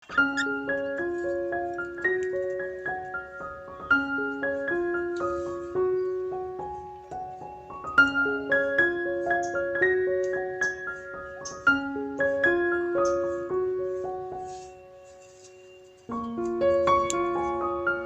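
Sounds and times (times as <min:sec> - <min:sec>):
gentle piano broken chords: 0:00.0 - 0:18.0.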